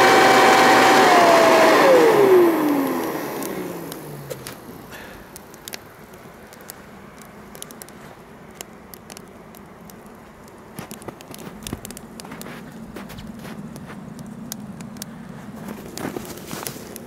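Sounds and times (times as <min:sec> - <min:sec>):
wood fire crackling and popping: 0:00.2 - 0:17.0.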